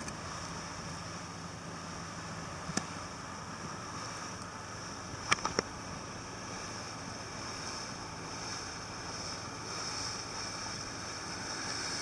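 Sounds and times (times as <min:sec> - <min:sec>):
boat rushing wind and water: 0:00.0 - 0:12.0.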